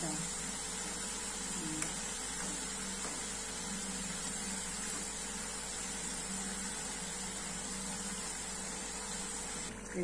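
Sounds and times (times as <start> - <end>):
oil sizzling and bubbling: 0.0 - 10.0.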